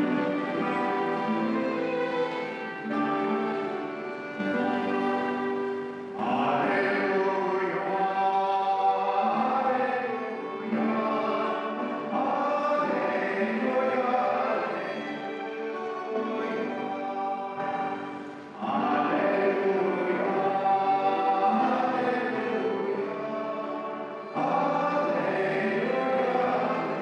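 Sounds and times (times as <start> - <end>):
person singing: 0.0 - 27.0
violin sustained notes: 0.0 - 27.0.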